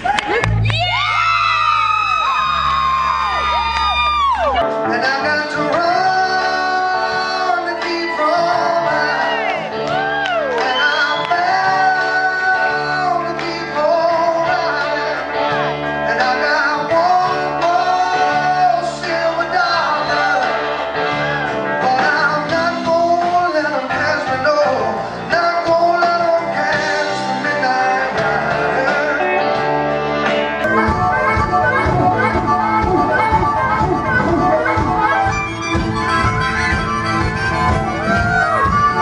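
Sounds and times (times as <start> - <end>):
blues-rock band playing: 0.0 - 39.0
electric guitar bending notes: 2.3 - 39.0.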